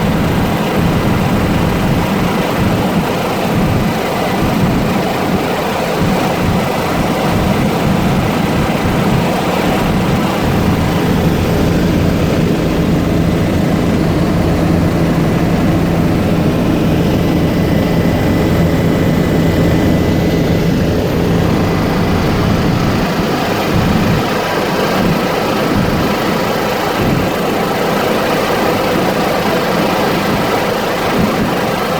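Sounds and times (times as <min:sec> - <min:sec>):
helicopter engine and rotor: 0:00.0 - 0:31.9.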